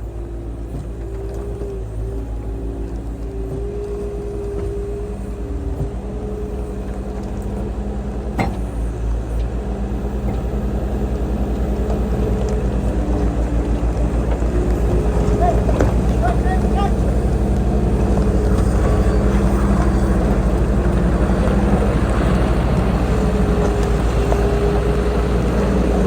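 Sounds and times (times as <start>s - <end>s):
steady tones shifting in pitch: 0.0s - 26.0s.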